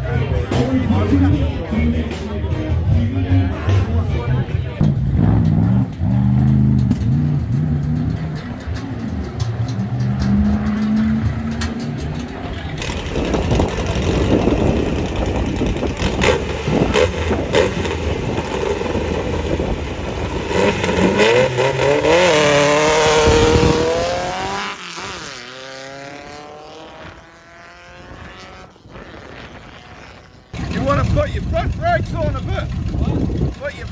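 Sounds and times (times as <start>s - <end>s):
drag racing engine accelerating: 3.0s - 33.5s.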